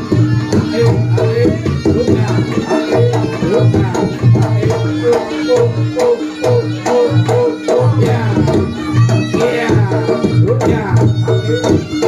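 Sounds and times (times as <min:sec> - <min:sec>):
drum strokes: 0:00.0 - 0:12.0
gamelan ensemble playing: 0:00.0 - 0:12.0.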